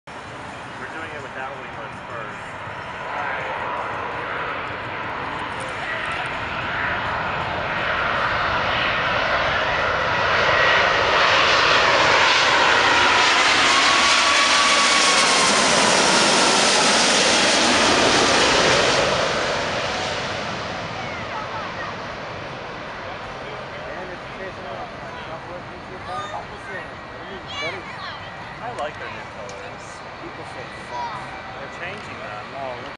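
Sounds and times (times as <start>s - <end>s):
jet engines passing overhead: 0.1s - 32.9s
pitch-sliding jet whine: 0.1s - 32.9s.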